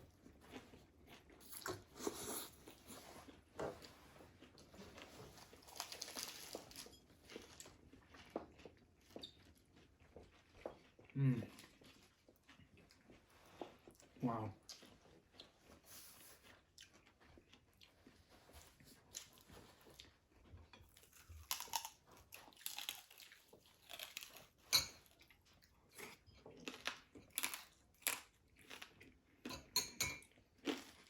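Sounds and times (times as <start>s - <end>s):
chewing crispy fried food: 0.0s - 31.0s.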